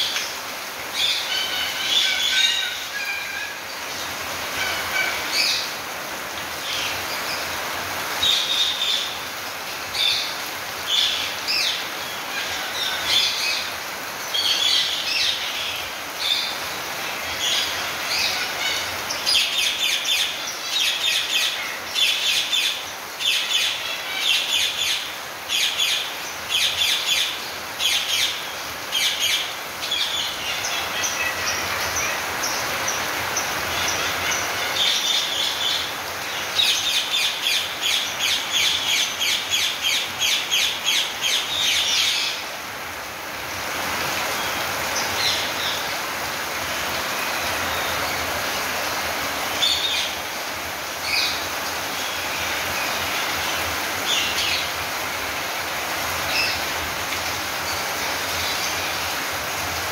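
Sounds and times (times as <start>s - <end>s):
rain hiss: 0.0s - 59.9s.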